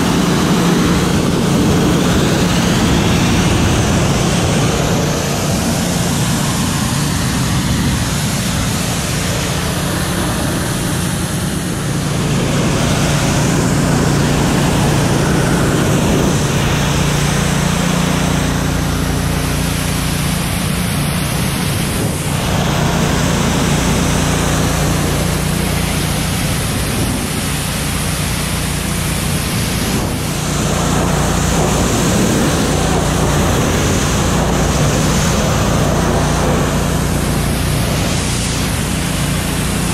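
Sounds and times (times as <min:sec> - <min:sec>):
high-pressure water jet hissing: 0:00.0 - 0:39.9
pressure washer pump humming: 0:00.0 - 0:39.9.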